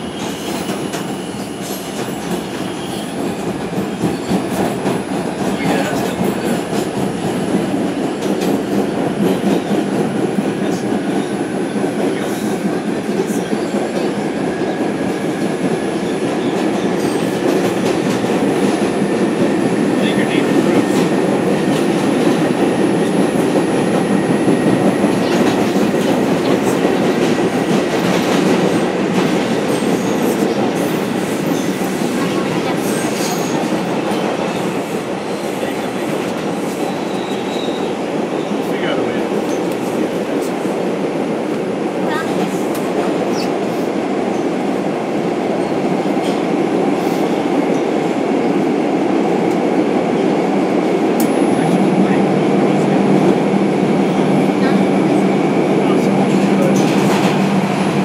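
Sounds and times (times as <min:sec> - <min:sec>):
subway wheels rumbling on track: 0:00.0 - 0:58.0.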